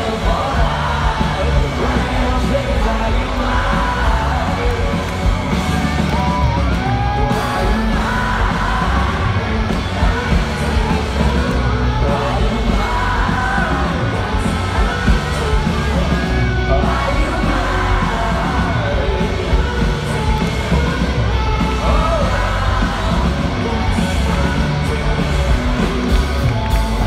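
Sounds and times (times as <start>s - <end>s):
crowd yelling and singing along: 0.0s - 27.0s
live rock band: 0.0s - 27.0s.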